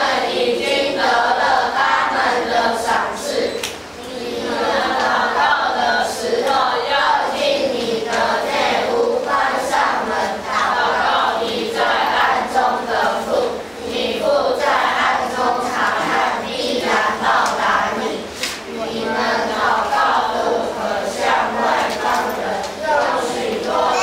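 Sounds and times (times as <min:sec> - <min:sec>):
children's choir singing a hymn: 0:00.0 - 0:24.0.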